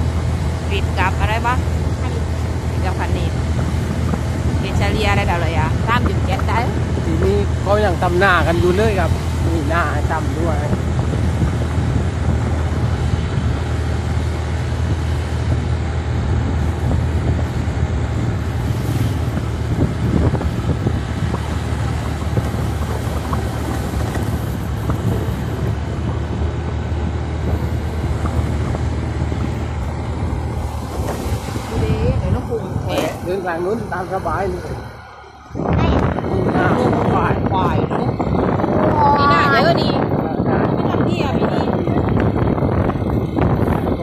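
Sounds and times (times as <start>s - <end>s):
motorcycle engine hum: 0.0s - 44.0s
wind noise on microphone: 0.0s - 44.0s.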